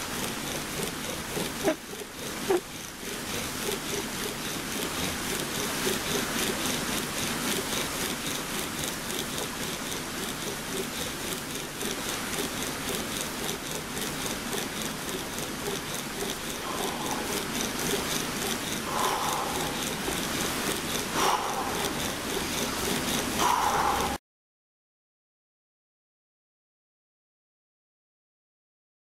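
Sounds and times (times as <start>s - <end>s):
bow drill spindle grinding wood: 0.0s - 24.2s.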